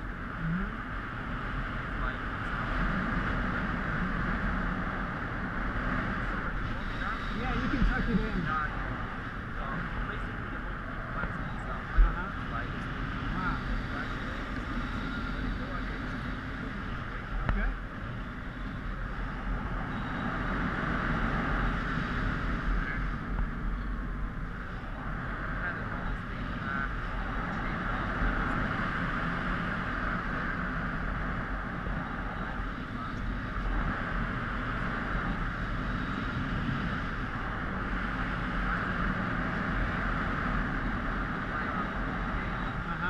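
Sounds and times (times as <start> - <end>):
wind rushing over camera: 0.0 - 43.0.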